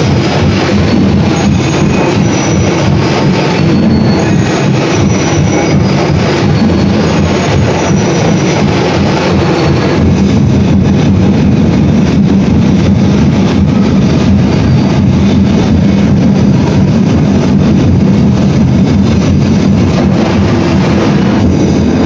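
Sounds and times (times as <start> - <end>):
loud percussion ensemble drumming: 0.0 - 22.0.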